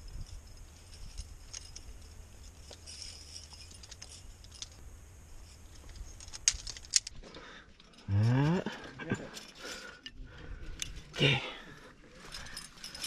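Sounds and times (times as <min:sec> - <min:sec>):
climbing gear clicking and clinking: 0:00.0 - 0:13.0.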